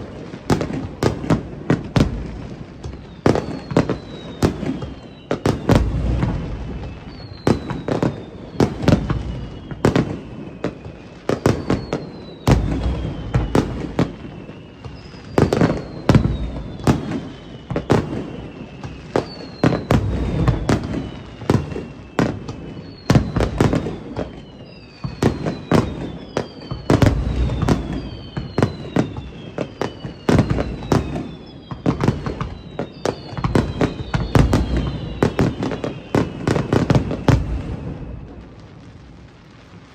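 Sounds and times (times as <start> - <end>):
falling firework whistles: 0.0 - 39.9
fireworks booming and cracking: 0.0 - 39.9.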